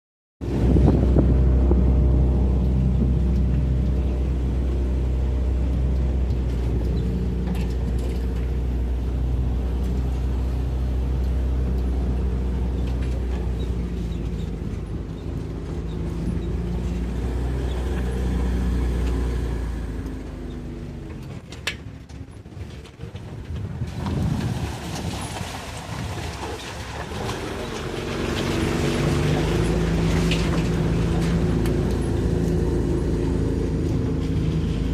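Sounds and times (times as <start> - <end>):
engine rumbling: 0.4 - 34.9.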